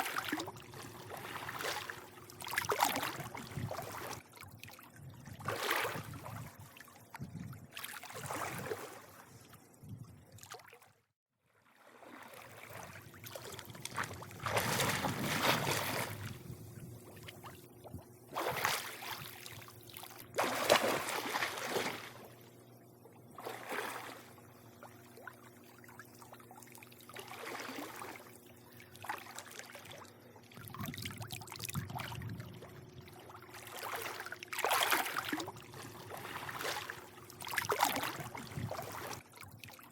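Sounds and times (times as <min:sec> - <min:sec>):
faint steady hum: 0:00.0 - 0:10.5, 0:11.8 - 0:39.9
pool water lapping and splashing: 0:00.0 - 0:39.9.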